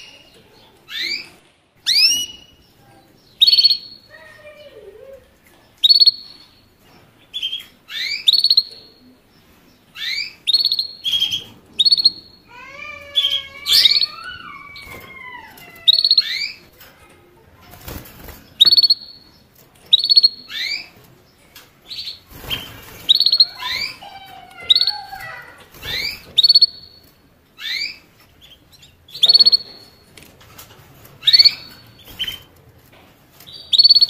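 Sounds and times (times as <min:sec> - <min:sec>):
finch chirping and warbling: 0:00.0 - 0:16.9, 0:17.6 - 0:34.0.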